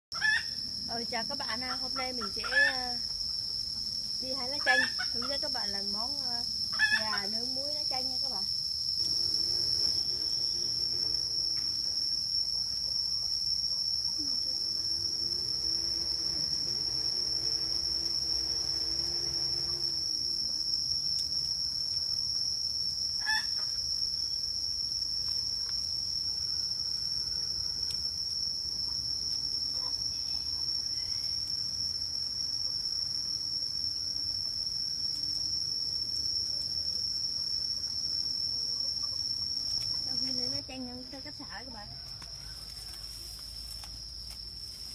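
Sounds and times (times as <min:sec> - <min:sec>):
insects droning: 0:00.1 - 0:44.9.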